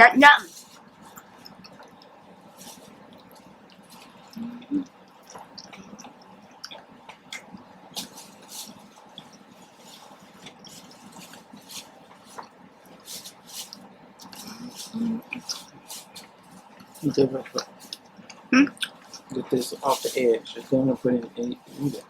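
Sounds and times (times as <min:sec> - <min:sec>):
low hum: 0:00.0 - 0:22.0
person chewing: 0:00.6 - 0:20.0.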